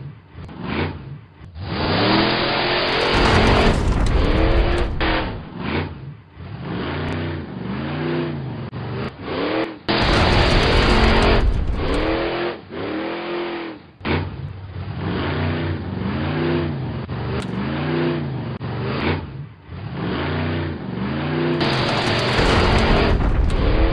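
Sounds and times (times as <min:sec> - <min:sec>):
truck engine revving: 0:00.3 - 0:23.9.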